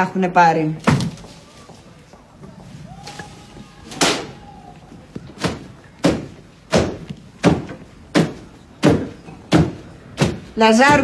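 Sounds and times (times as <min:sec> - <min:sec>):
shoes stamping on bouquets: 0:00.8 - 0:11.0.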